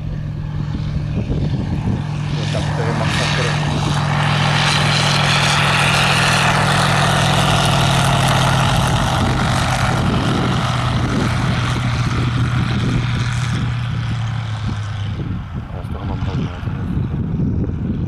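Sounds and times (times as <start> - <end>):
propeller plane engine: 0.0 - 18.0.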